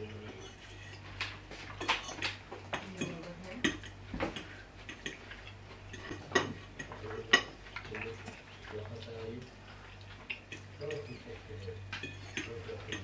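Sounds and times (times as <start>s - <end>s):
forks scraping against plates: 0.0s - 2.4s, 3.0s - 13.0s
steady low hum: 0.0s - 13.0s.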